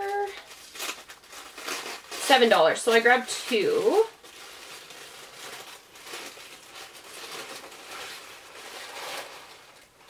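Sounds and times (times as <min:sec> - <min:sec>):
tissue paper rustling: 0:00.0 - 0:10.0.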